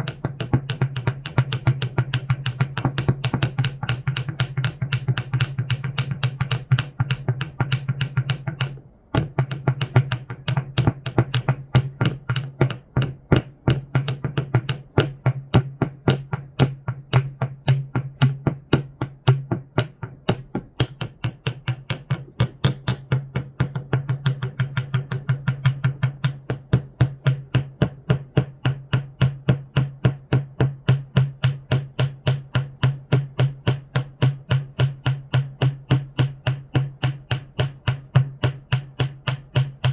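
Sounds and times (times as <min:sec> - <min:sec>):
fast sharp clicks: 0:00.0 - 0:39.9.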